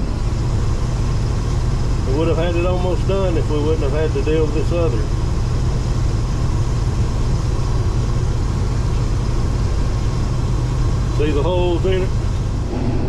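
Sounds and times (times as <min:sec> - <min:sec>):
combine diesel drone: 0:00.0 - 0:13.0
machinery hum: 0:00.0 - 0:13.0.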